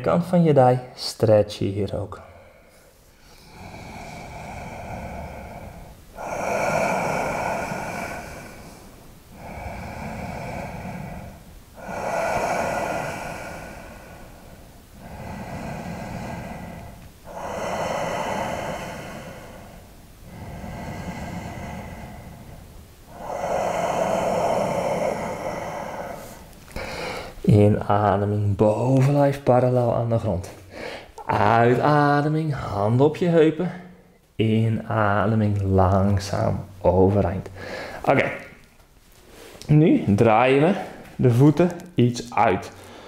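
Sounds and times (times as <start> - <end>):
person breathing slowly: 2.1 - 29.1, 29.7 - 33.0, 36.3 - 43.0.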